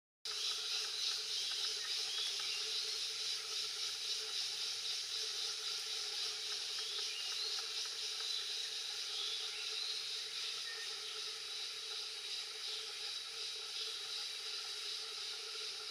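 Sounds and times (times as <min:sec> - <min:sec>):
forest background hiss: 0:00.3 - 0:15.9.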